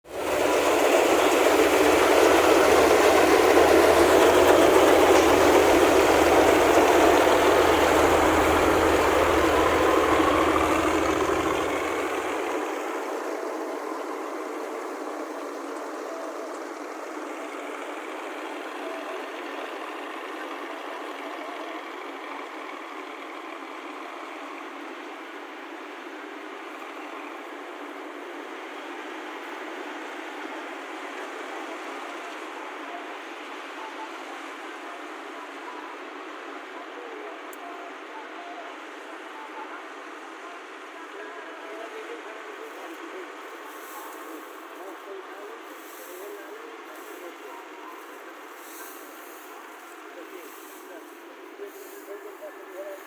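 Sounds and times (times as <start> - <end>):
engine running: 0.0 - 53.0.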